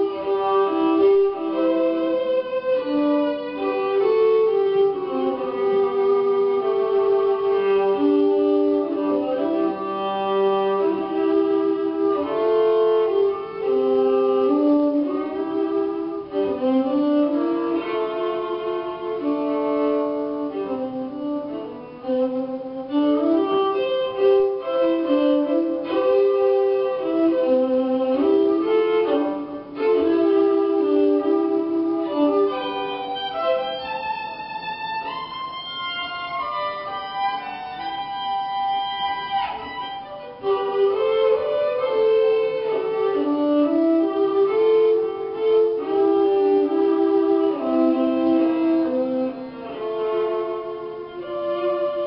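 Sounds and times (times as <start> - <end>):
solo violin melody: 0.0 - 52.0.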